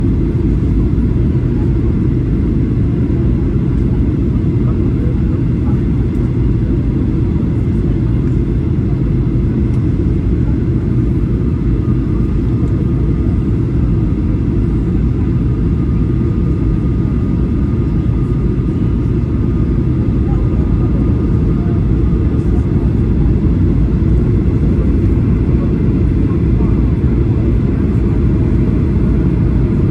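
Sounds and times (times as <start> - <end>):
aircraft engines rumbling: 0.0 - 29.9.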